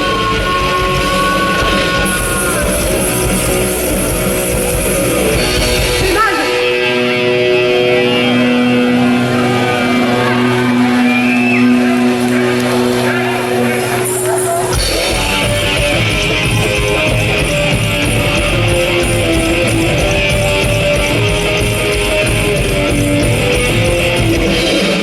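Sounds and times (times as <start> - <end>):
amplified guitars: 0.0 - 25.0
live rock band playing: 0.0 - 25.0.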